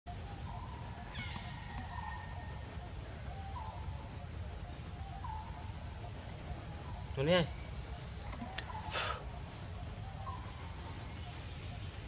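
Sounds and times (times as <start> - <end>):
faint chirping calls: 0.1 - 12.0
insects droning: 0.1 - 12.0.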